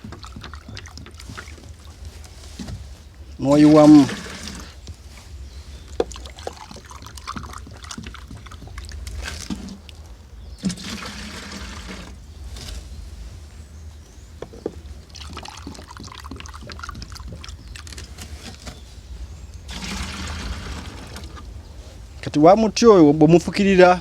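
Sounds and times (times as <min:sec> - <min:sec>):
vessels knocking and clattering: 0:00.0 - 0:05.2, 0:05.8 - 0:13.4, 0:14.4 - 0:19.0, 0:19.6 - 0:21.6
water pouring and splashing: 0:00.0 - 0:13.0, 0:14.4 - 0:18.9, 0:19.6 - 0:21.6.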